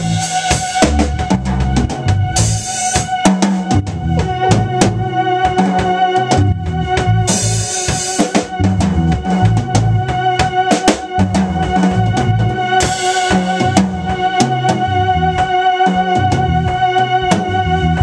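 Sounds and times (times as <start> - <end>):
drum kit beat: 0.0 - 18.0
electric bass line: 0.0 - 18.0
keyboard holding a chord: 0.0 - 18.0.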